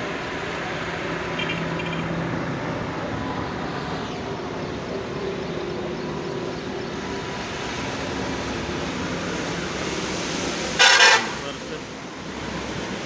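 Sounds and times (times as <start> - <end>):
tyres on wet road: 0.0 - 13.0
vehicle engines humming: 0.0 - 13.0.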